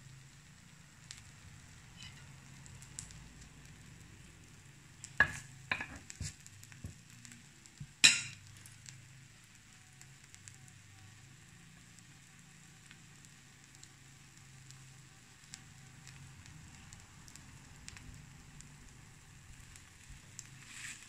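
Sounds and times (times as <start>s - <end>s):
batter sizzling in a pan: 0.0s - 21.0s.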